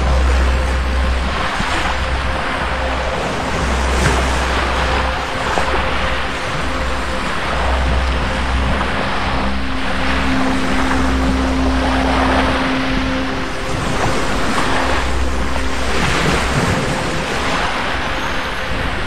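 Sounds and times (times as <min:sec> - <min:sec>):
low engine-like hum: 0:00.0 - 0:19.0.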